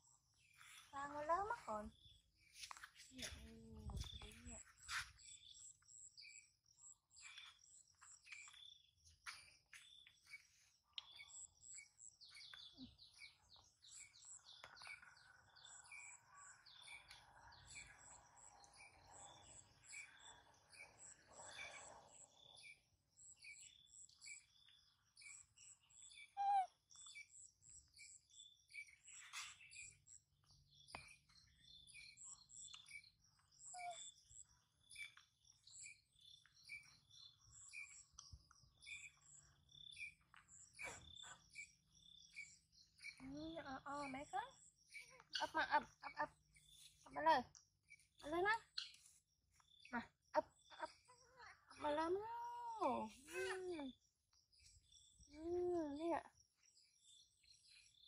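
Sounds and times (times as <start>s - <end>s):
birds and insects chirping: 0.0s - 58.0s.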